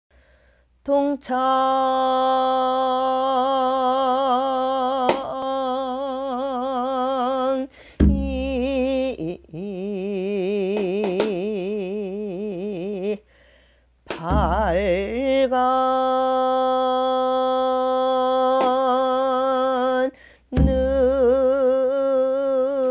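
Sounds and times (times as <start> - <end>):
woman singing long notes: 0.8 - 13.3, 14.1 - 22.9.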